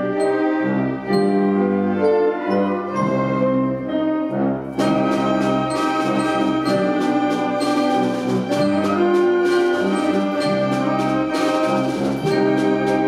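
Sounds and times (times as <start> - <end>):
wind band playing chords: 0.0 - 13.0.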